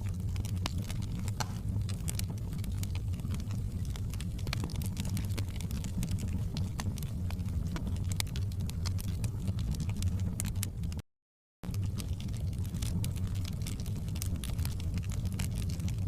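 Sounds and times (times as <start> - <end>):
wood fire crackling and popping: 0.0 - 11.0, 11.6 - 16.0.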